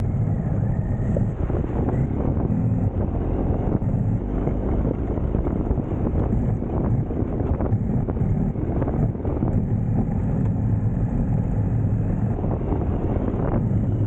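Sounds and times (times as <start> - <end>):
low vehicle engine: 0.0 - 14.0
rolling rumble: 0.0 - 14.0
wind buffeting microphone: 0.0 - 14.0.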